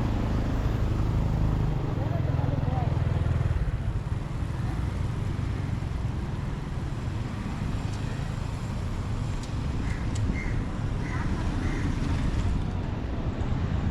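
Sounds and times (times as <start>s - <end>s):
vehicle engine rumble: 0.0s - 13.9s.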